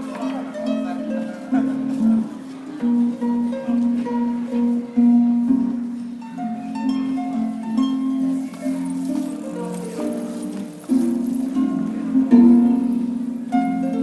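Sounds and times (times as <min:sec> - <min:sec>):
harp playing: 0:00.0 - 0:14.0.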